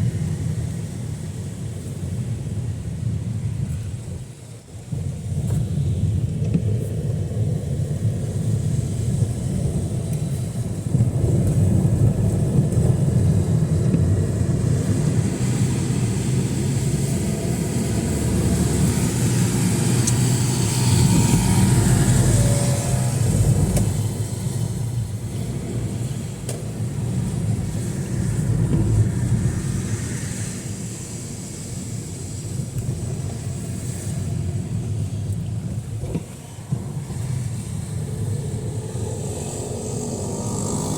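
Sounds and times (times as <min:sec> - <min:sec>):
vehicles passing on wet street: 0:00.0 - 0:40.9.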